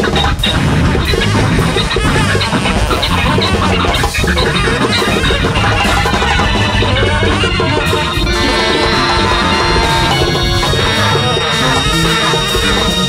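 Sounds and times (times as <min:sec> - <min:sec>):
big band jazz playing: 0:00.0 - 0:13.0
drum kit: 0:00.0 - 0:13.0
guitar groove: 0:00.0 - 0:13.0.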